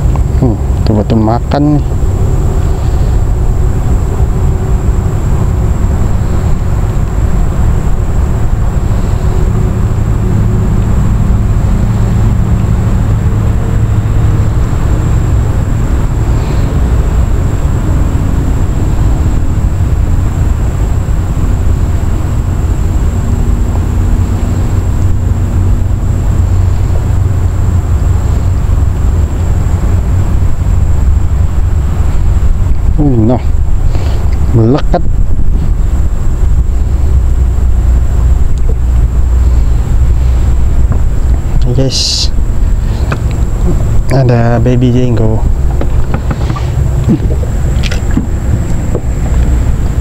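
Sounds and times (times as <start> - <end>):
outboard motor droning: 0.0 - 50.0.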